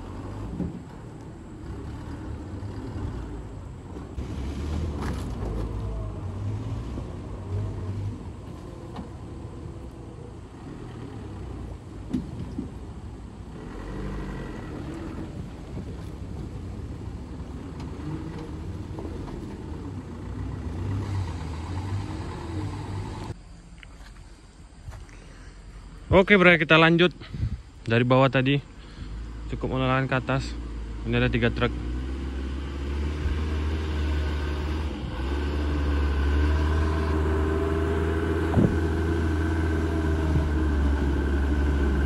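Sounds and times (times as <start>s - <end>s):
loaded truck engine running hard: 0.0s - 23.4s, 28.8s - 42.0s.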